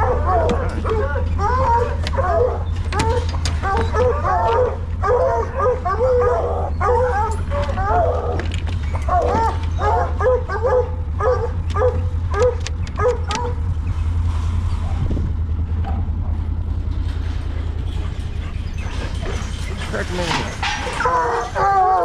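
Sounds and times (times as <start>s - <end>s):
dogs barking and yelping: 0.0s - 14.2s, 16.5s - 22.0s
steady low rumble: 0.0s - 22.0s.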